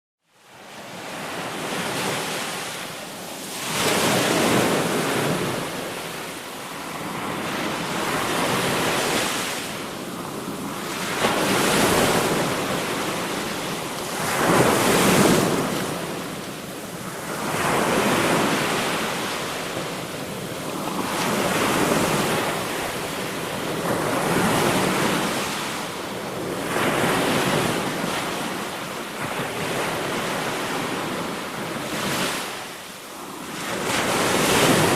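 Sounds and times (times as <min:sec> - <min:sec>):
sea waves breaking: 0:00.6 - 0:34.9.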